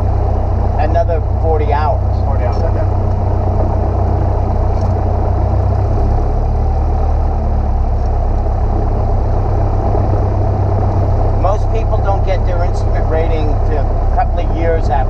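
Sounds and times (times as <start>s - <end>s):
light airplane engine droning: 0.0s - 15.0s.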